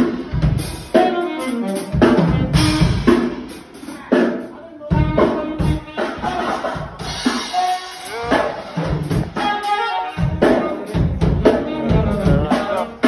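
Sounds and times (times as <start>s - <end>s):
music with drum beat and bass: 0.0s - 13.0s.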